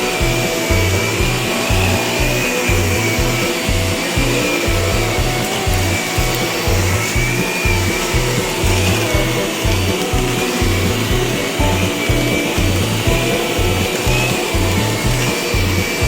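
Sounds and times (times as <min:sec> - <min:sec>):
music with bass beat: 0:00.0 - 0:16.0
vacuum cleaner running: 0:00.0 - 0:16.0.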